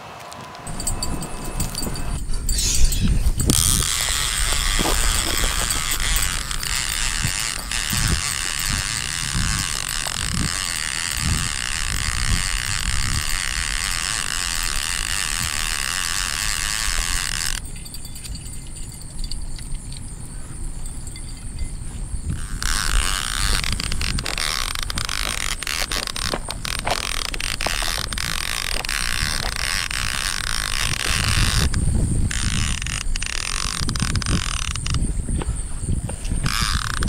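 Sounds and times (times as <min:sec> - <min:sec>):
fishing reel ratcheting: 0:00.7 - 0:20.0, 0:22.3 - 0:35.1, 0:36.4 - 0:37.0.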